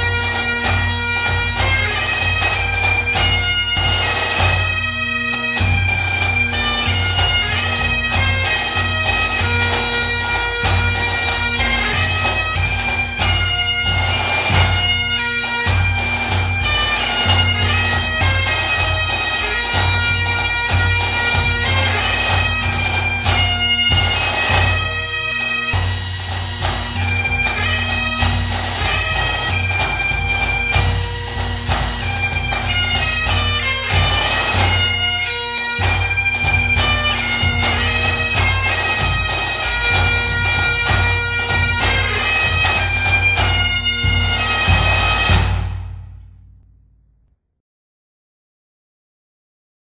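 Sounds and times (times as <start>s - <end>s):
bagpipes playing tune: 0.0s - 45.9s.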